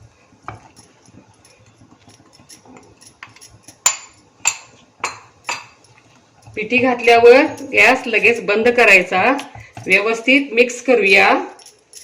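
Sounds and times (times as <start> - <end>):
metal utensil clinking on pan: 0.5 - 10.3.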